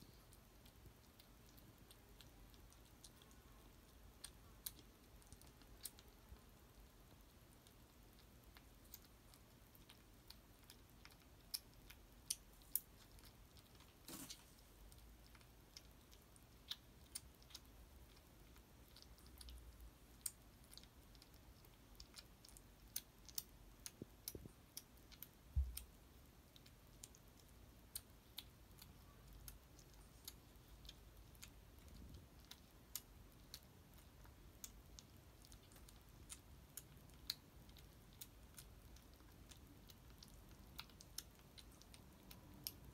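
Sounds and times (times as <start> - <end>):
kitten crunching dry kibble: 0.1 - 42.9.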